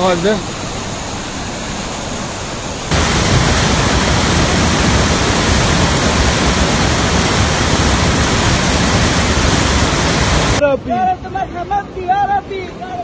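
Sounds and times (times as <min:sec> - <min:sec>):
floodwater rushing through channel: 0:00.0 - 0:10.6.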